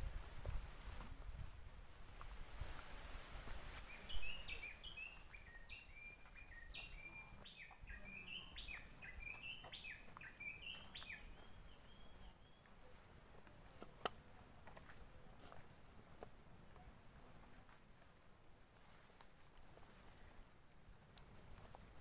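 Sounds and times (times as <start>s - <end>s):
songbird chirping: 0.7s - 17.8s, 18.8s - 22.0s.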